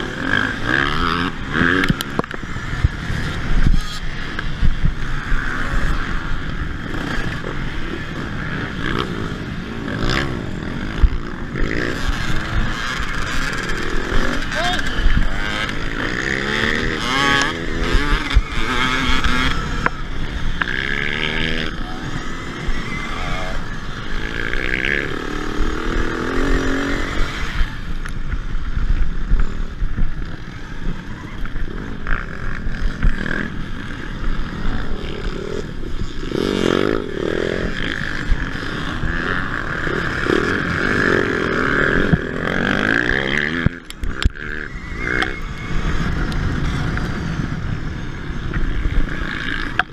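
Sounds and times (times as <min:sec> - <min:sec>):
camera rattle on rough ground: 0:00.0 - 0:49.9
dirt bike engines revving: 0:00.0 - 0:49.9
high whine: 0:00.0 - 0:49.9
wind: 0:00.0 - 0:49.9.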